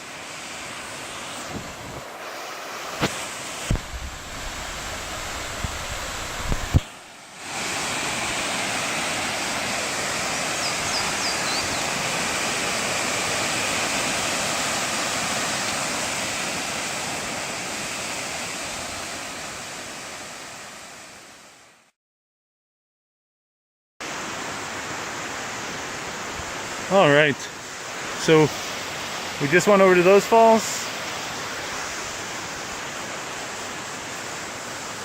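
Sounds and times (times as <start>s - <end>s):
waterfall rushing: 0.0s - 21.4s, 24.0s - 35.0s.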